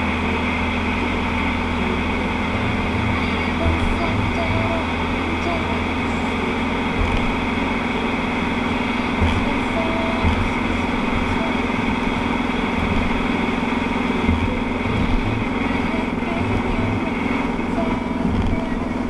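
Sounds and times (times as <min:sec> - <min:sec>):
vehicle engine and tyre drone: 0:00.0 - 0:19.0.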